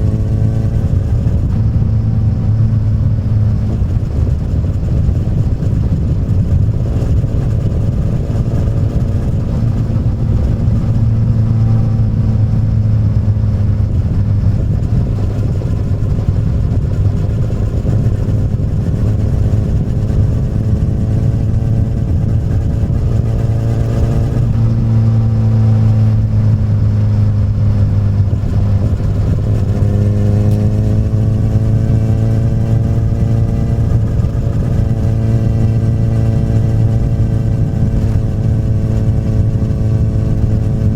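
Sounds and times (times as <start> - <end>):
motorcycle exhaust running: 0.0 - 40.9.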